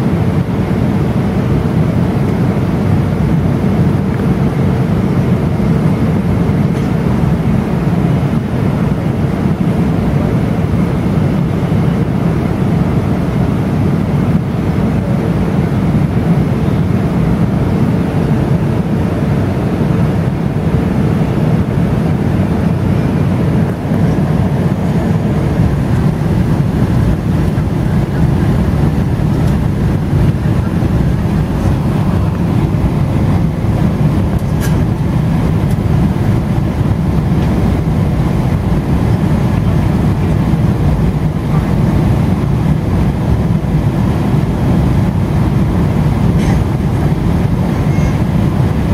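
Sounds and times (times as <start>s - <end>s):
airplane cabin engine rumble: 0.0s - 48.9s
faint steady hum: 0.0s - 48.9s.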